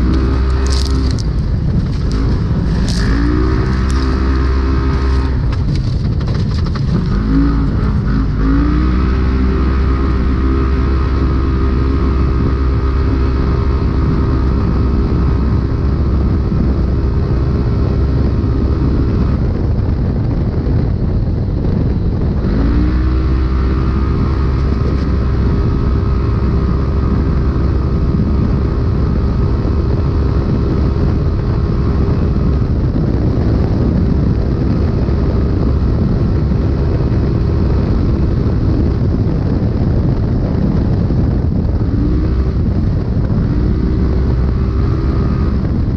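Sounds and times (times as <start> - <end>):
vehicle engine running hard: 0.0 - 45.9.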